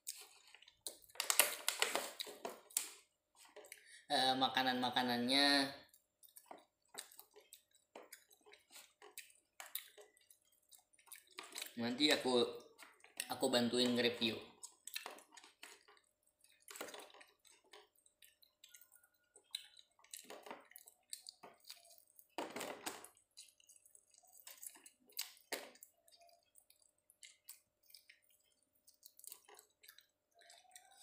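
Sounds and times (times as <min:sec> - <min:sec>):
wet chewing and lip smacks: 0:00.0 - 0:01.2, 0:02.0 - 0:04.0, 0:05.8 - 0:11.8, 0:12.6 - 0:13.4, 0:14.4 - 0:22.4, 0:23.0 - 0:31.0.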